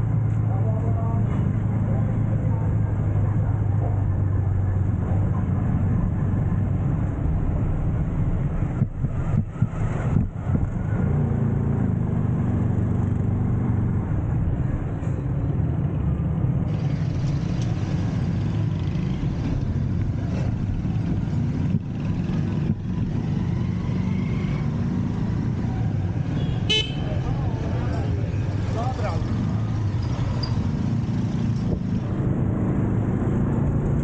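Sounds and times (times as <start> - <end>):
vehicle engine hum and road noise: 0.0 - 34.0.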